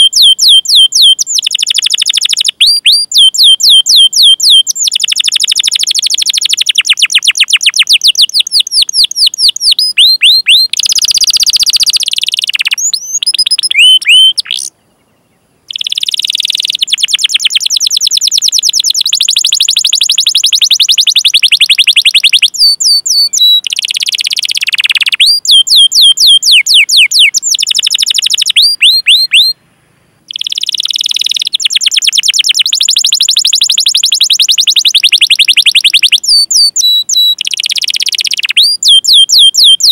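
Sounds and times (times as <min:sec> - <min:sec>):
canary singing trills: 0:00.0 - 0:29.6, 0:30.2 - 0:39.9.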